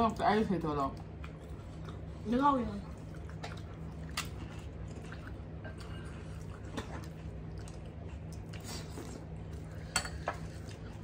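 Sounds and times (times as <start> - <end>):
soft chewing: 0.0 - 11.0.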